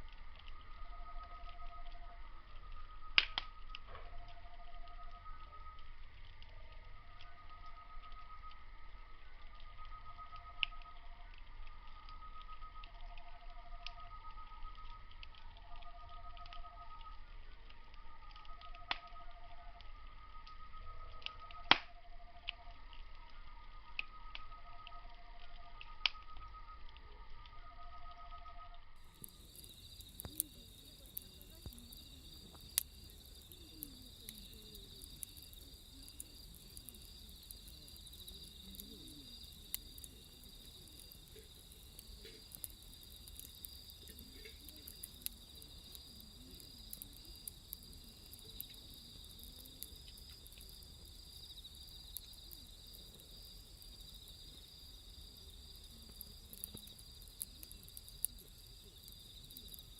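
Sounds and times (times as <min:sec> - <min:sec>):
wood fire crackling: 0:00.0 - 0:27.6, 0:29.0 - 0:59.9
night insects chirring: 0:00.1 - 0:59.9.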